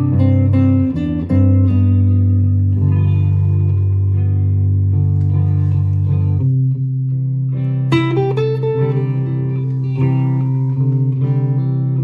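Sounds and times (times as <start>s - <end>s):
electric guitar notes: 0.0s - 12.0s.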